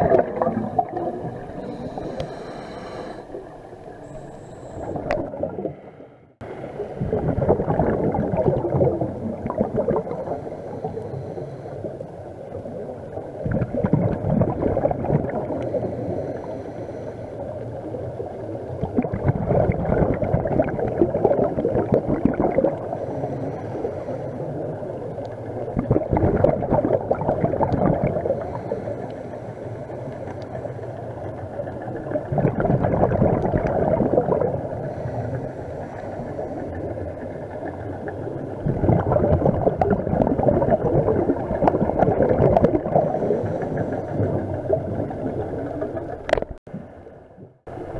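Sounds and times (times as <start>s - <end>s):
scuba bubbles gurgling: 0.0s - 47.9s.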